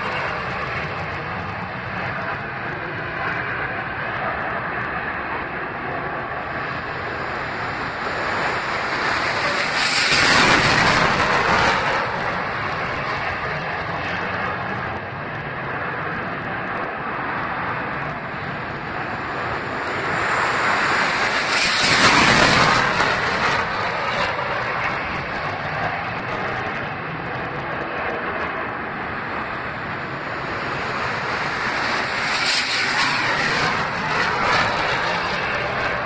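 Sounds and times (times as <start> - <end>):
jet engines flying over: 0.0 - 36.0.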